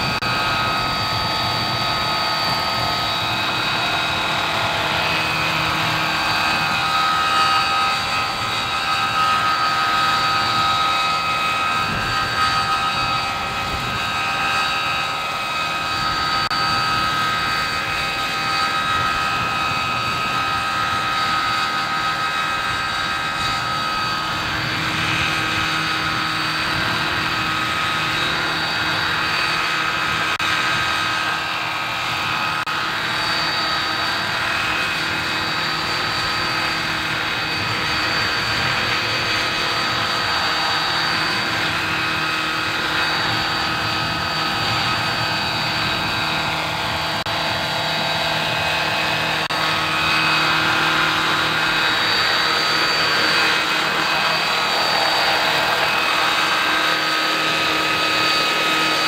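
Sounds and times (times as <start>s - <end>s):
high-pitched drive whine: 0.0s - 59.0s
rotor blades whirring: 0.0s - 59.0s.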